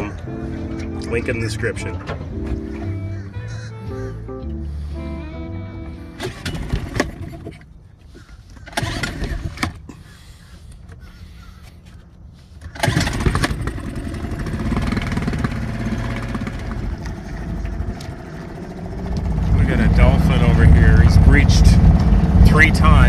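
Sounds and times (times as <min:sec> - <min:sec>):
outboard motor running: 0:00.0 - 0:07.6, 0:08.6 - 0:09.8, 0:12.8 - 0:23.0.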